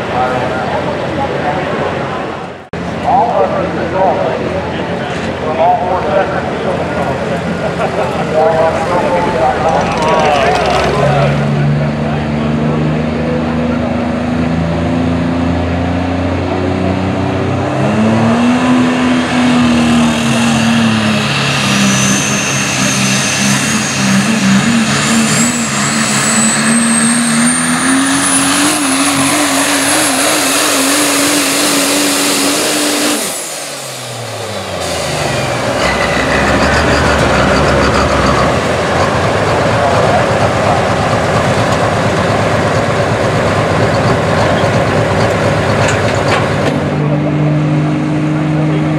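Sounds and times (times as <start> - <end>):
diesel truck engine revving: 0.0 - 48.9.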